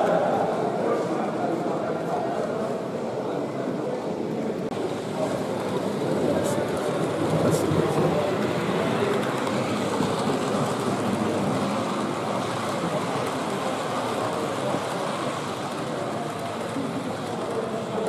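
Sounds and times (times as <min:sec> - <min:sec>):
model train running on track: 0:00.0 - 0:18.0
murmur of many voices: 0:00.0 - 0:18.0.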